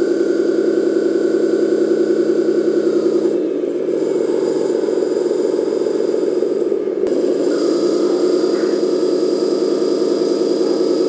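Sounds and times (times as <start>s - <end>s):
hydraulic pump whirring: 0.0s - 11.0s
simulated truck engine: 0.0s - 11.0s.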